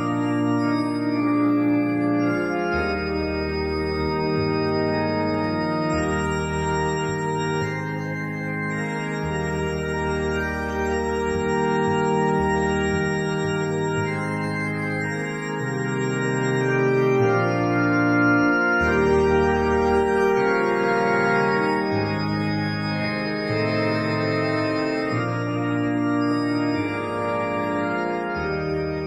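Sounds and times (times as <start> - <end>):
slow sustained organ chords: 0.0 - 29.0.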